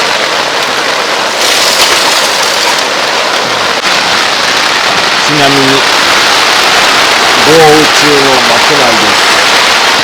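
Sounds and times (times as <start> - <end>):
heavy rain on tent fabric: 0.0 - 10.0.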